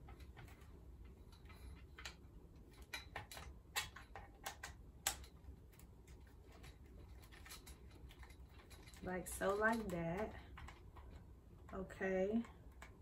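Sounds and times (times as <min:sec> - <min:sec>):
light clicks and taps: 0:00.0 - 0:13.0.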